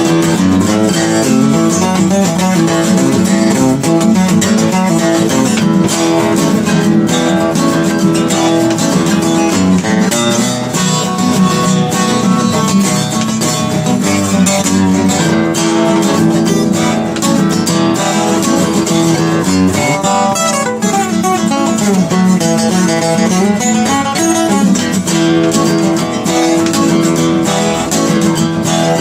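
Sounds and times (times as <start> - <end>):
blues guitar playing: 0.0 - 29.0.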